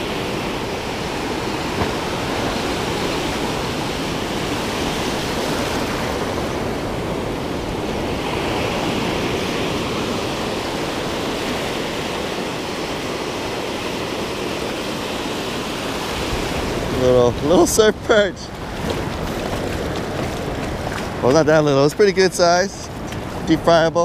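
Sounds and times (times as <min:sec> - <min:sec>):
ocean surf breaking on sand: 0:00.0 - 0:24.0.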